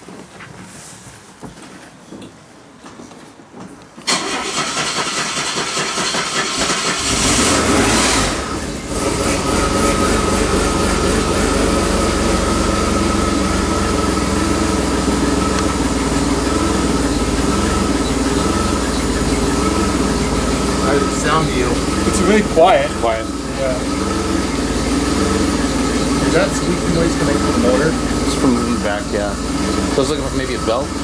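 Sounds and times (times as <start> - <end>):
car engine starting and idling: 4.0 - 31.0.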